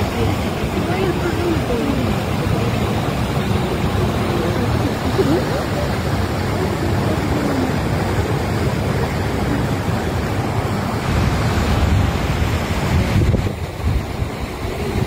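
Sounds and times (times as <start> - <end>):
flooded river rushing: 0.0 - 15.0.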